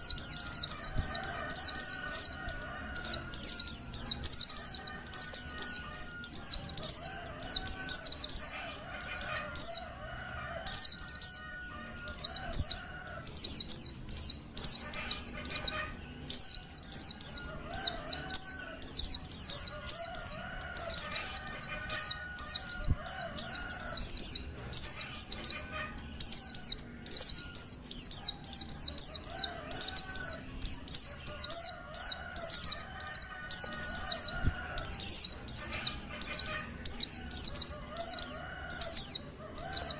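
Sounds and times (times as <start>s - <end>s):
bird calling high sweeping notes: 0.0s - 39.9s.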